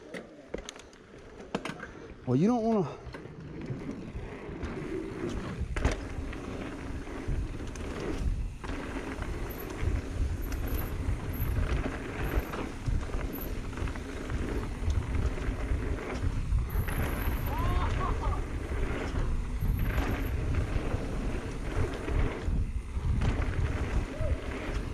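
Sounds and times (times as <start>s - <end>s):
bike rattling: 0.0s - 24.9s
tyres rolling over gravel: 0.0s - 24.9s
wind rumbling on microphone: 3.2s - 24.9s.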